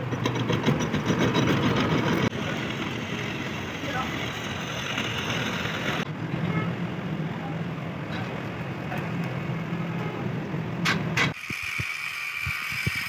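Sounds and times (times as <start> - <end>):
engine humming: 0.0 - 11.4.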